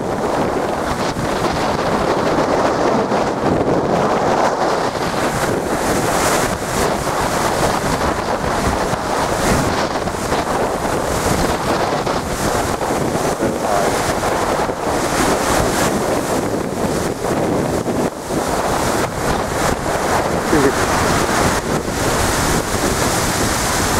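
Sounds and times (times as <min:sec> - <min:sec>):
sea surf breaking against wall: 0:00.0 - 0:23.9
wind buffeting microphone: 0:00.0 - 0:23.9.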